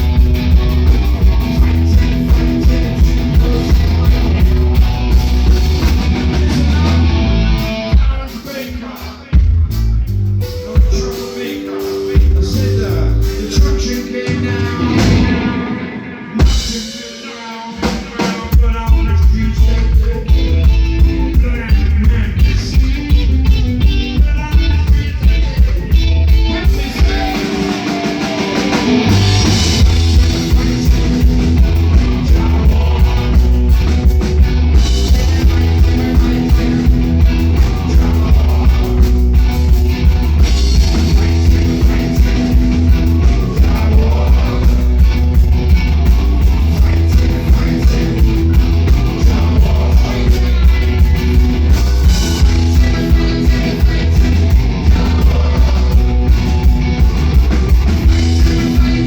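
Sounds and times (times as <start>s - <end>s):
heavy bass line: 0.0s - 8.2s, 9.3s - 16.9s, 18.6s - 59.0s
live reggae-style rock band: 0.0s - 59.0s.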